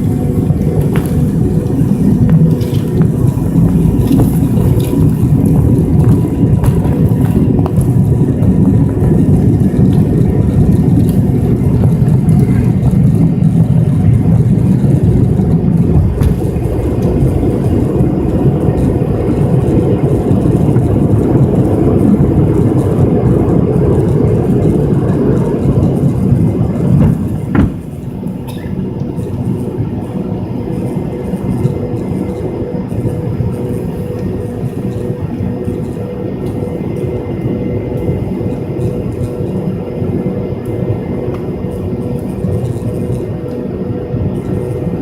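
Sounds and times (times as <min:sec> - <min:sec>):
airflow noise: 0:00.0 - 0:45.0
airliner engines rumbling: 0:00.0 - 0:45.0.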